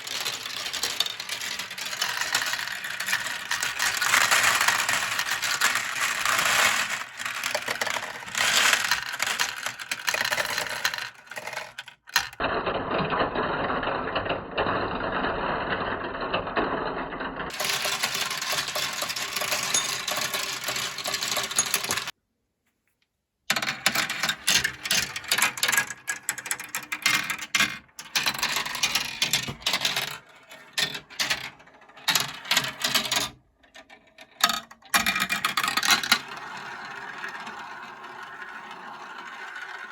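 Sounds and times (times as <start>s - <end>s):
marbles rolling down plastic run: 0.0s - 22.2s, 23.5s - 39.9s.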